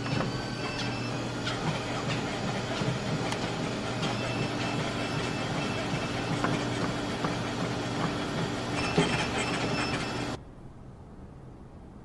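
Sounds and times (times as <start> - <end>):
treadmill motor and belt drone: 0.0 - 10.4.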